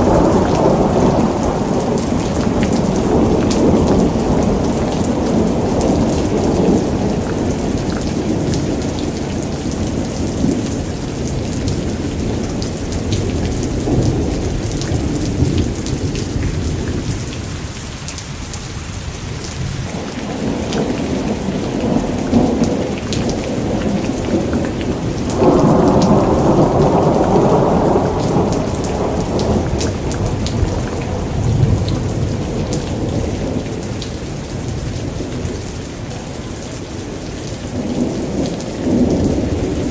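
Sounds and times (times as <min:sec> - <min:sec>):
rolling thunder: 0:00.0 - 0:17.7, 0:19.8 - 0:39.9
steady rain: 0:00.0 - 0:39.9.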